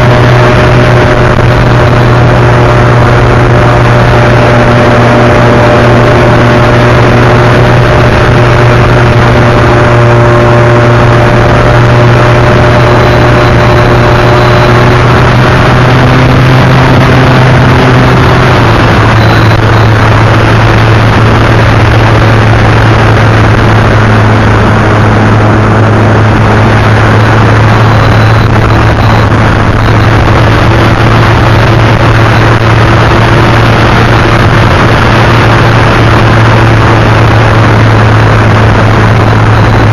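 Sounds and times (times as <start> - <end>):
model airplane motor running: 0.0 - 39.9.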